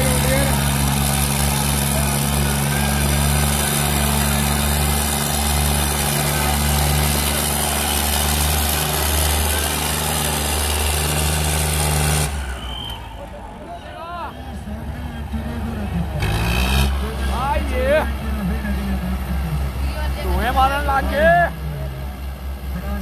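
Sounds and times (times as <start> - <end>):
tractor engines droning: 0.0 - 23.0.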